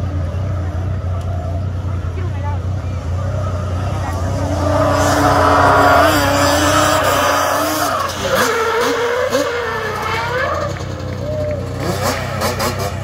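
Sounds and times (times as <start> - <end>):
tyres skidding on asphalt: 0.0 - 13.0
quad bike engine revving: 2.2 - 13.0.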